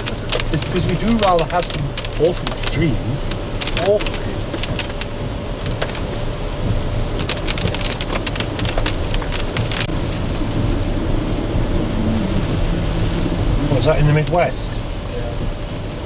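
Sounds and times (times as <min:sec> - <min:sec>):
heavy rain drumming on car roof: 0:00.0 - 0:16.0
road and engine rumble: 0:00.0 - 0:16.0.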